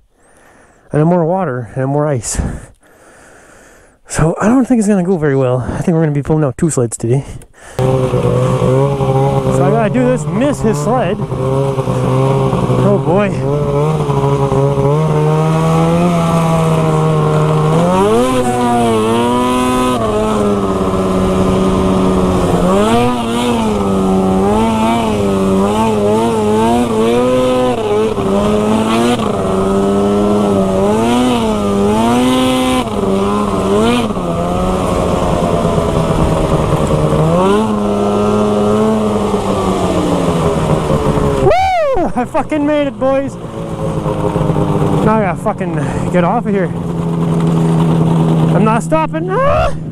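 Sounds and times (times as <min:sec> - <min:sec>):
snowmobile engine revving: 0:07.7 - 0:49.9.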